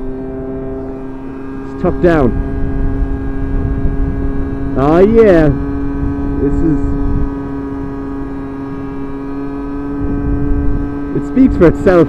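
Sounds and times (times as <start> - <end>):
moped engine droning: 0.0 - 12.0
wind rumble on microphone: 0.8 - 11.7.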